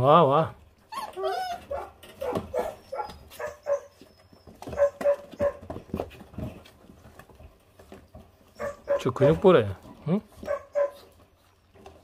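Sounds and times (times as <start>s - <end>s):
puppies yipping and barking: 0.8s - 9.6s, 10.4s - 12.0s.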